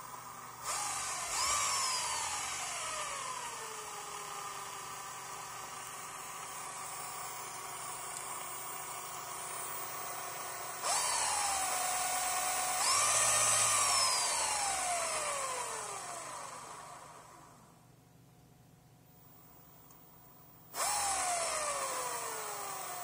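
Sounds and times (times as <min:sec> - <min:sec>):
electric motor whining: 0:00.0 - 0:17.6, 0:20.7 - 0:23.0.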